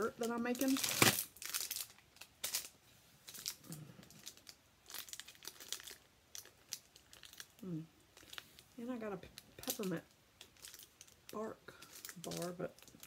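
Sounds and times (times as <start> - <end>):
candy wrapper crinkling: 0.0 - 13.0.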